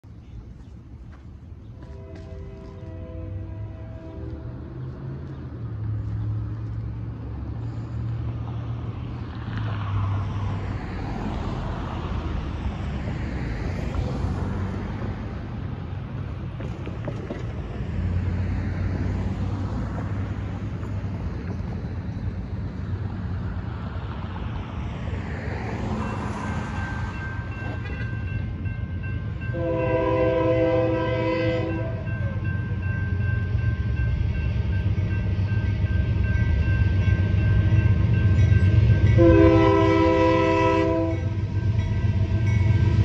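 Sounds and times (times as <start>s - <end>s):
low traffic rumble: 0.0s - 43.0s
cars and trucks driving past: 0.4s - 43.0s.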